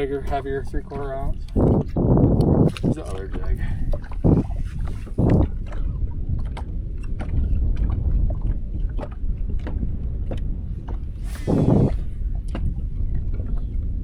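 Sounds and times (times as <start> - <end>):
water washing around boat: 0.0 - 14.0
wind rumbling on microphone: 0.0 - 14.0.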